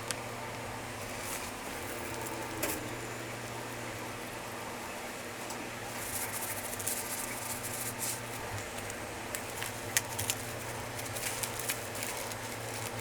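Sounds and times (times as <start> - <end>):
low hum of shop equipment: 0.0 - 13.0.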